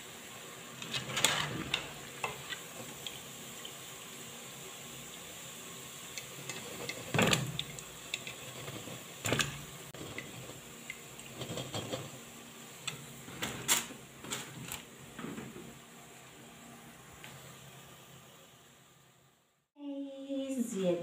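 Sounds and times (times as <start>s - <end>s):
oil sizzling faintly: 0.0s - 21.0s.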